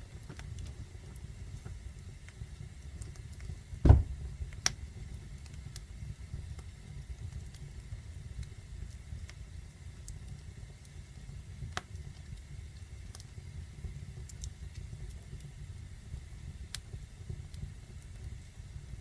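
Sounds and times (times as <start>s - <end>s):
fire crackling pops: 0.0s - 19.0s
fire rumbling in fireplace: 0.0s - 19.0s.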